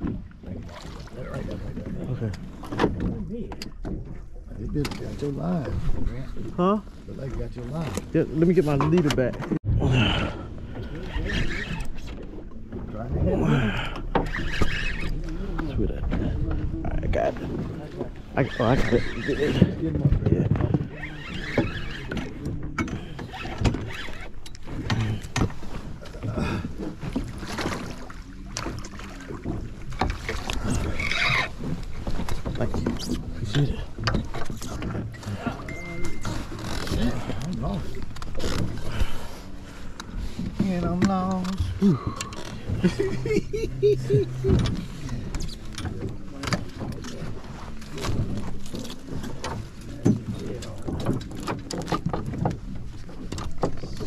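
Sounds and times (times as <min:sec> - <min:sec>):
water lapping at hull: 0:00.0 - 0:54.0.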